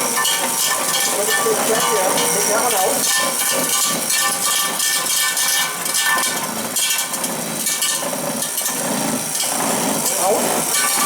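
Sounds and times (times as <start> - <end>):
vibrator machine running: 0.0 - 11.0.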